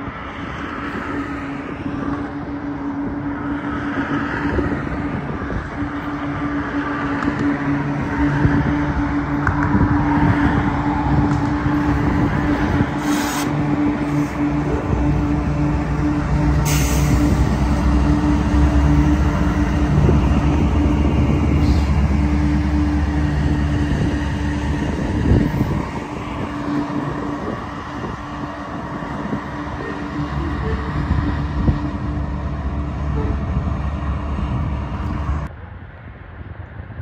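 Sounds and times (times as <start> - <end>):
diesel locomotives droning: 0.0 - 37.0
freight train passing: 0.0 - 37.0.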